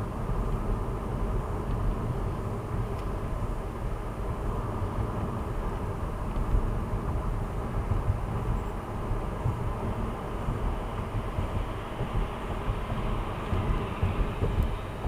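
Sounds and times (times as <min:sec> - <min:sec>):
car tyres and engine rumble: 0:00.0 - 0:15.0.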